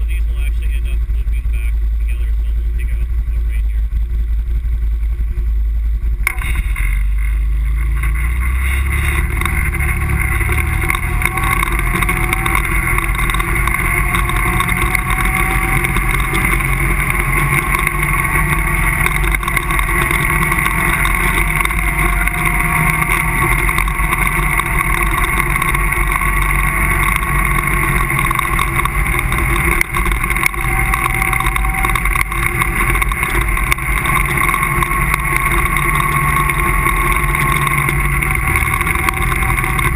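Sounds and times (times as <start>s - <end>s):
low rumble: 0.0s - 39.9s
quad bike engine running: 0.0s - 39.9s.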